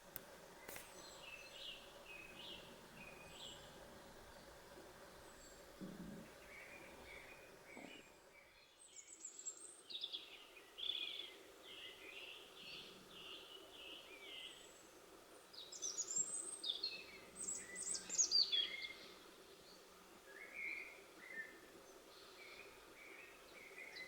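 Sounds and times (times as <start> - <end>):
songbird singing: 0.0 - 14.8, 15.6 - 24.0.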